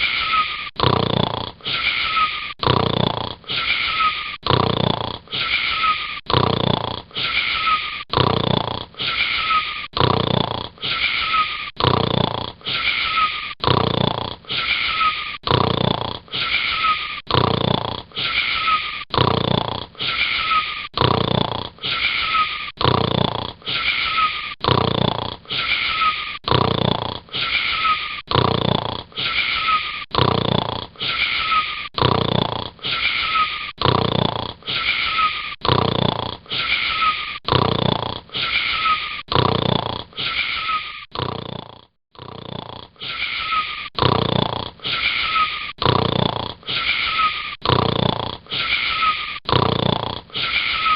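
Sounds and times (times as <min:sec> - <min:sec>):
wheezy whistling snoring: 0:00.0 - 0:50.9.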